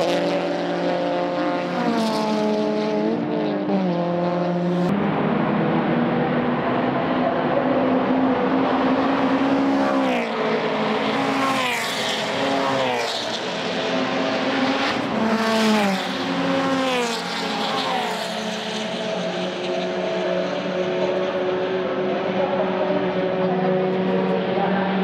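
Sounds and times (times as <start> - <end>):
race cars passing at speed: 0.0 - 25.0.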